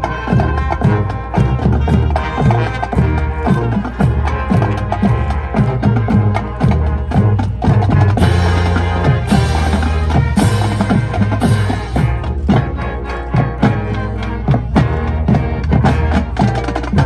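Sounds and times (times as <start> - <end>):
brass chords: 0.0 - 17.0
drumline beat: 0.0 - 17.0.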